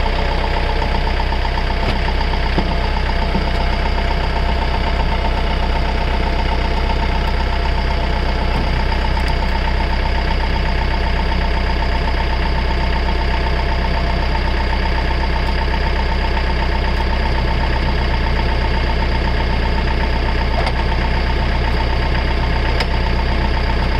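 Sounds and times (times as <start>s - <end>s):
tractor diesel engine idling: 0.0s - 23.9s.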